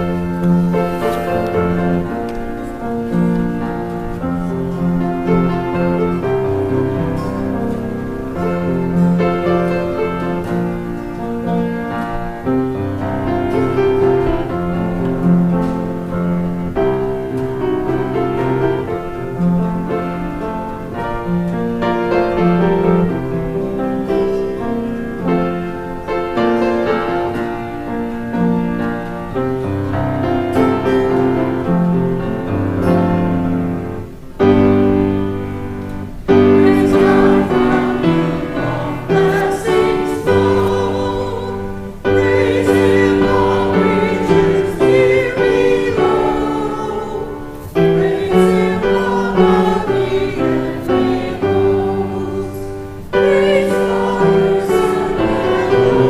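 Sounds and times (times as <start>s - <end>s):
piano playing slow chords: 0.0s - 56.0s.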